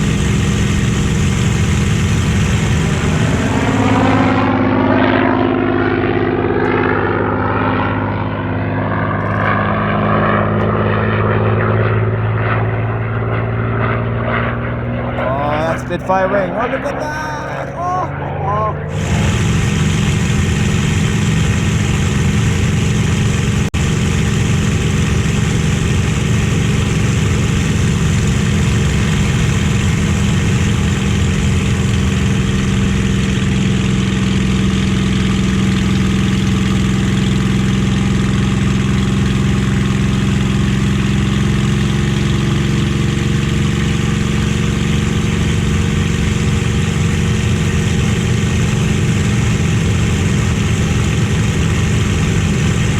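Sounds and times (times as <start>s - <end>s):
piston aero engine drone: 0.0s - 52.9s.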